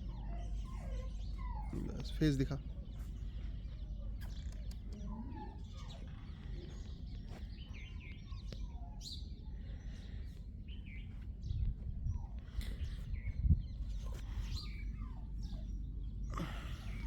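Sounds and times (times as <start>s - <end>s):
small birds chirping: 0.0s - 17.0s
steady low rumble: 2.6s - 17.0s.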